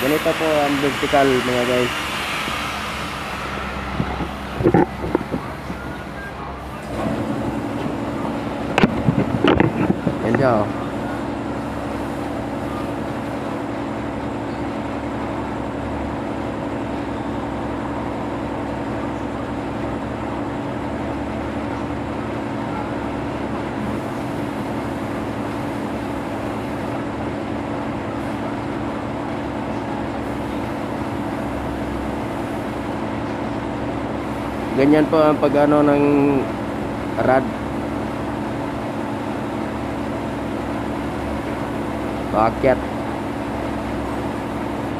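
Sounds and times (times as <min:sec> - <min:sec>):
low machine hum: 0:00.0 - 0:44.9.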